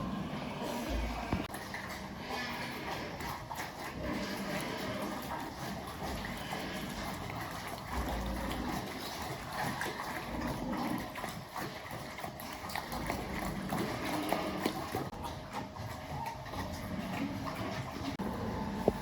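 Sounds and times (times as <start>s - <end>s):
pigs: 0.0s - 19.0s.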